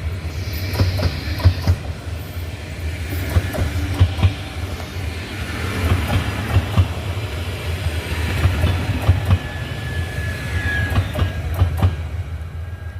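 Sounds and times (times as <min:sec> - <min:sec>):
train rumbling past: 0:00.0 - 0:12.9.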